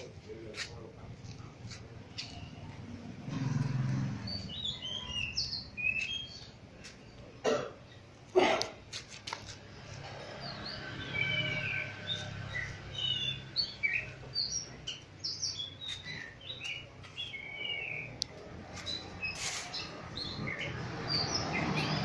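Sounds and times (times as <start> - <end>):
birds chirping: 0.0 - 8.5, 9.1 - 22.0.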